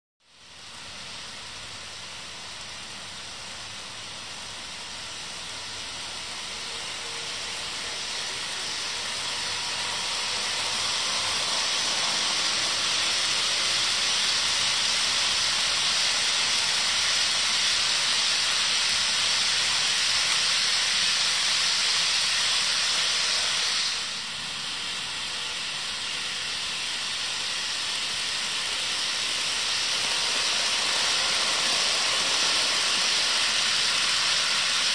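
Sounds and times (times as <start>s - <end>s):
model locomotive motors and gears: 0.2s - 34.9s
model train wheels hissing on rails: 0.2s - 34.9s.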